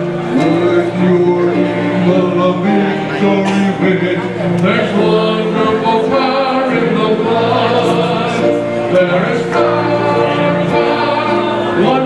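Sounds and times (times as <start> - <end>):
choir singing gospel: 0.0 - 12.0.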